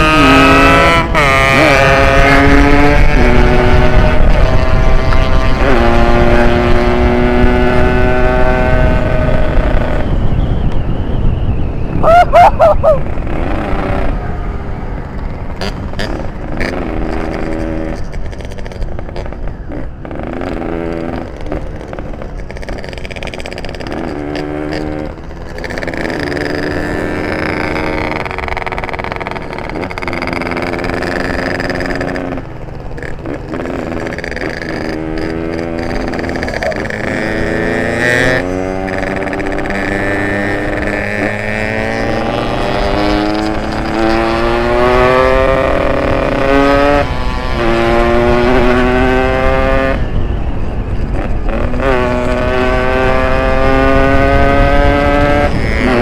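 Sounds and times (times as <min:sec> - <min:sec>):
two-stroke motorcycle engine revving: 0:00.0 - 0:10.2, 0:12.0 - 0:56.0.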